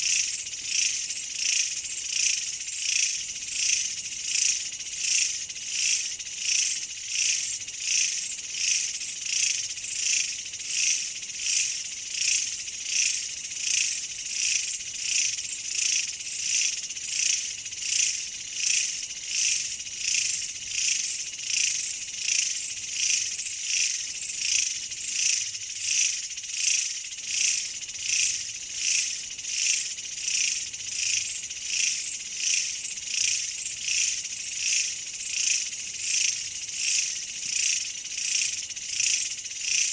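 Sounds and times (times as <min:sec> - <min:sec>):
insects buzzing trill: 0:00.0 - 0:39.9.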